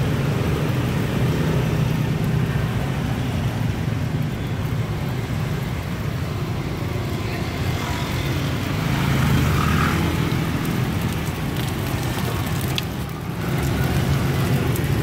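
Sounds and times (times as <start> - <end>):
motorbike and car engines: 0.0 - 15.0.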